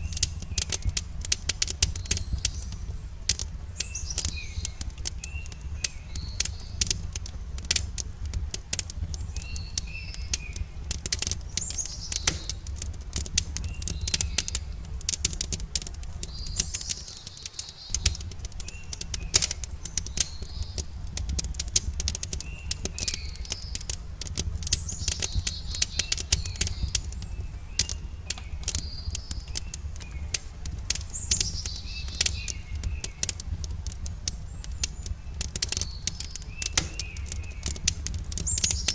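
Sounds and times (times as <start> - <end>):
low steady rumble: 0.0 - 38.9
small birds chirping: 0.0 - 38.9
wood fire crackling: 0.0 - 38.9.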